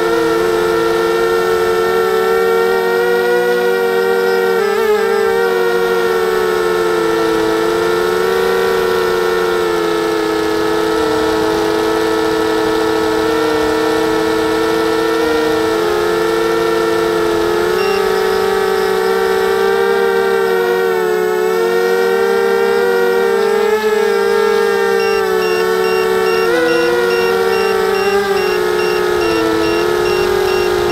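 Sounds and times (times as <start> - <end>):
quadcopter motors whining: 0.0 - 30.9.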